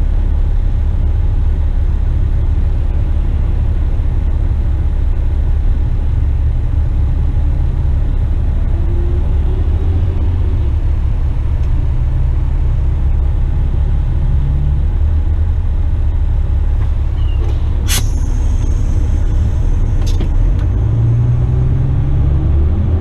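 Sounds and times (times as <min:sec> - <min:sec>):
road noise: 0:00.0 - 0:23.0
truck diesel engine rumble: 0:00.0 - 0:23.0.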